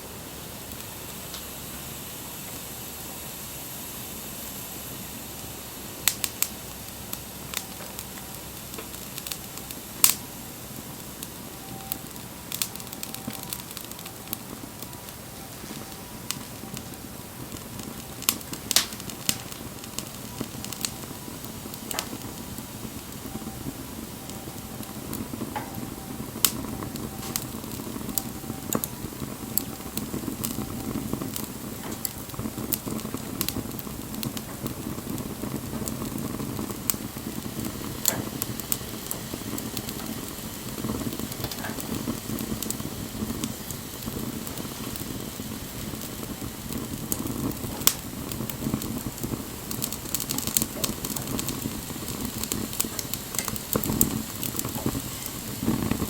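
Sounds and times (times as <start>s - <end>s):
flames rushing: 0.0s - 56.0s
wood fire crackles and pops: 0.0s - 56.0s.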